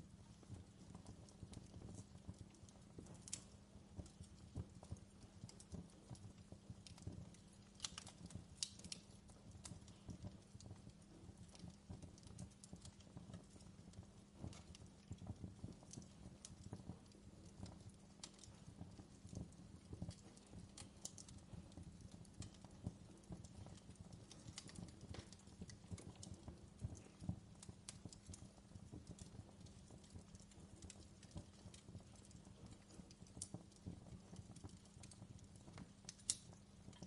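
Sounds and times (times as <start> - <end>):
fireplace crackling faintly: 0.0 - 37.0.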